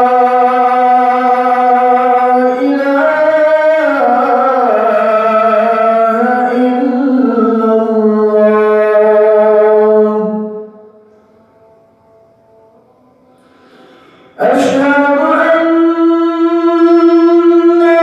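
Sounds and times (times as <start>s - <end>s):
man chanting through microphone: 0.0s - 11.0s, 14.3s - 18.0s.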